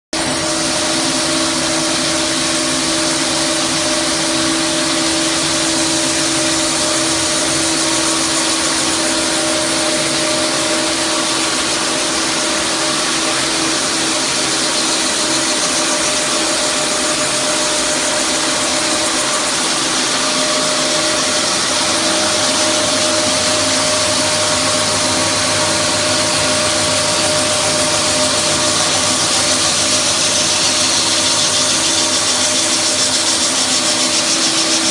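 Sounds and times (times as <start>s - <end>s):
floor sander motor running: 0.2s - 34.9s.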